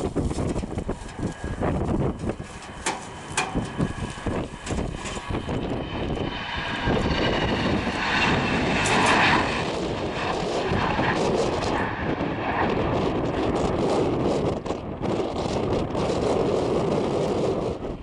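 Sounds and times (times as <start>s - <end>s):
high fan whine: 0.0s - 18.0s
jet engine roar: 0.0s - 18.0s.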